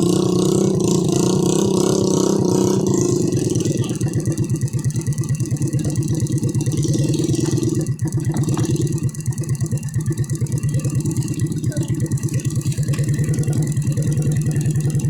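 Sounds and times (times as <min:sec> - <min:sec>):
vehicle engine running at low revs: 0:00.0 - 0:15.0.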